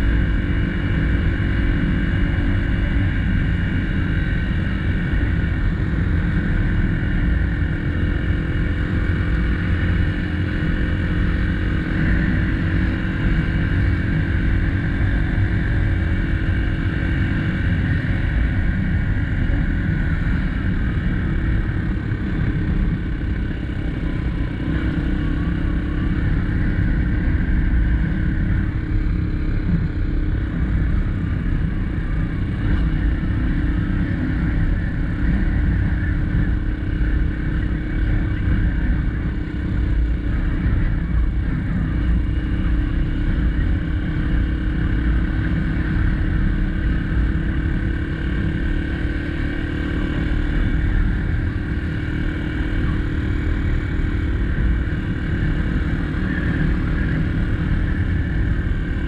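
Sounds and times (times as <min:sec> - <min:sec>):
dirt bike engine running: 0:00.0 - 0:59.0
heavy low rumble: 0:00.0 - 0:59.0.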